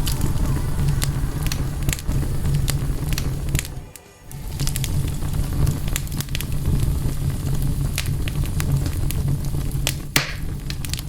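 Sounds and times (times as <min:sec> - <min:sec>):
low rumble of fire: 0:00.0 - 0:11.0
sharp snaps of fire: 0:00.0 - 0:11.0
wood fire crackling: 0:00.0 - 0:11.0.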